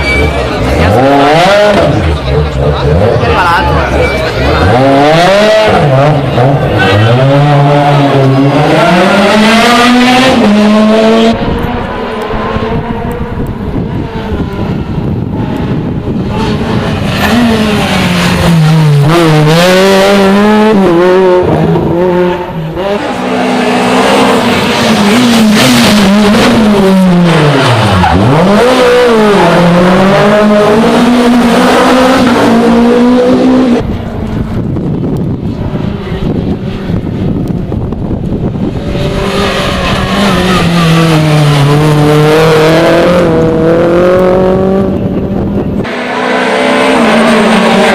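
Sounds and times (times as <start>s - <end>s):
rally car engine revving: 0.0s - 47.9s.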